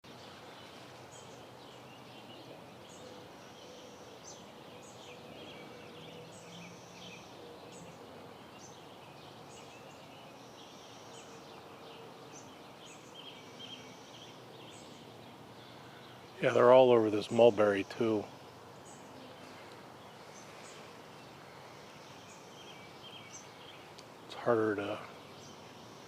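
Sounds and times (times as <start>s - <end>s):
birds chirping: 0.0s - 26.0s
faint background noise: 0.0s - 26.0s.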